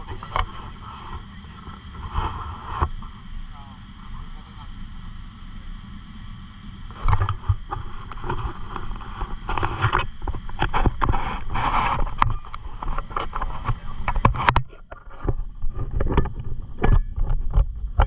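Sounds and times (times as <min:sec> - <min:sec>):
boat engine rumble: 0:00.0 - 0:18.0
wind buffeting microphone: 0:00.0 - 0:18.0.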